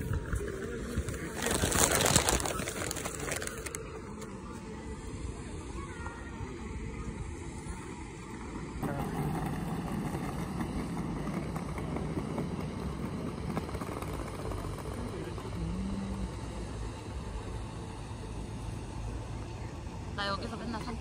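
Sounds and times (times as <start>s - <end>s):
distant traffic: 0.0s - 21.0s
faint voices: 0.0s - 21.0s.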